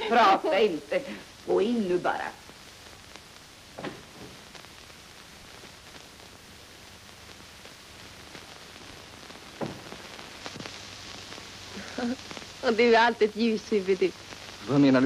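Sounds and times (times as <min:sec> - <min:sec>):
film soundtrack hiss and crackle: 0:00.0 - 0:15.0.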